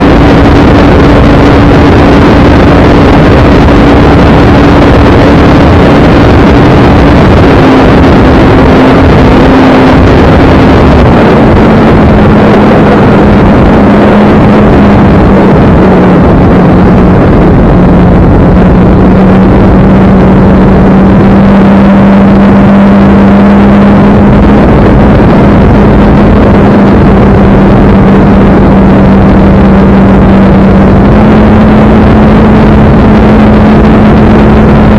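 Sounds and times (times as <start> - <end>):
air rush: 0.0 - 34.9.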